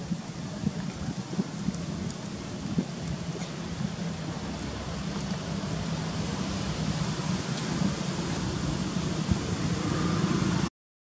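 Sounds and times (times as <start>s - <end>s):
constant low hum: 0.0s - 10.5s
even outdoor rush: 0.0s - 10.7s.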